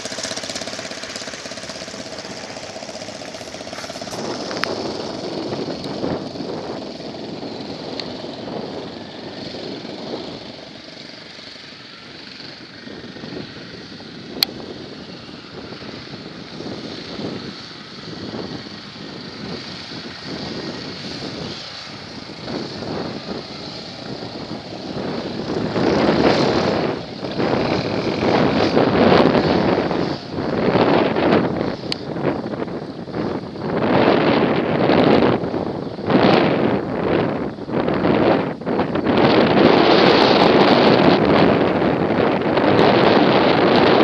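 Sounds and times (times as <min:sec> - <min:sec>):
off-road vehicle engine running: 0:00.0 - 0:44.0.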